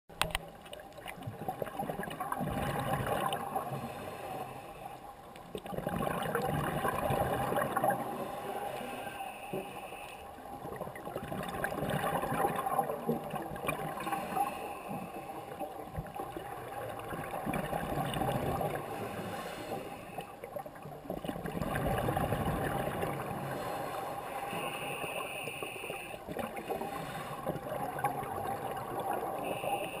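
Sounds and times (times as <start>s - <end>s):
scuba bubbles gurgling: 0.2s - 30.0s.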